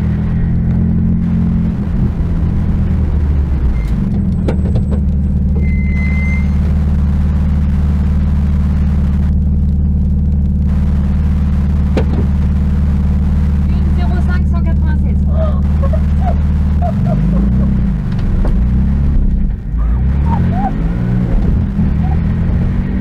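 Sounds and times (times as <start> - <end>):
car engine idling from inside: 0.0 - 22.3.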